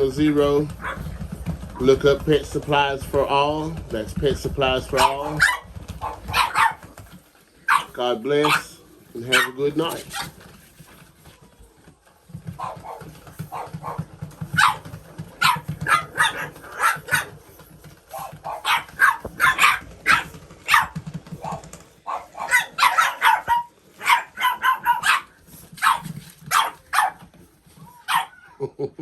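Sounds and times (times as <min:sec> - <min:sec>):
puppies barking and yipping: 0:00.0 - 0:02.3, 0:04.5 - 0:28.7.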